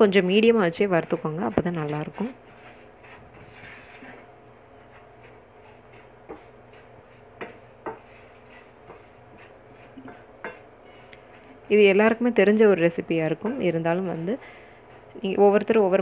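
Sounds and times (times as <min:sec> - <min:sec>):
spatula scraping frying pan: 0:00.0 - 0:11.9, 0:13.2 - 0:15.5
faint steady hum: 0:00.0 - 0:16.0
spatula tapping pan: 0:00.2 - 0:04.2, 0:04.8 - 0:11.4, 0:13.3 - 0:15.8.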